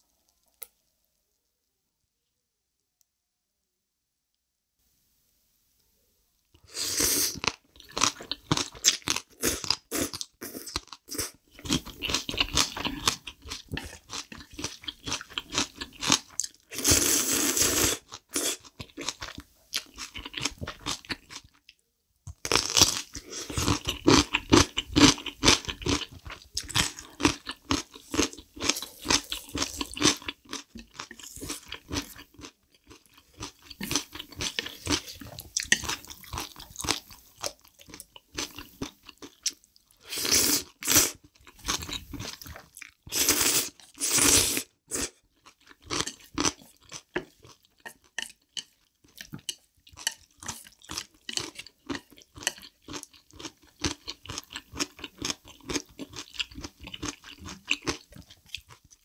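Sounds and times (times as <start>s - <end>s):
wet chewing and crunching: 7.4s - 16.8s, 18.0s - 44.2s, 45.0s - 59.0s.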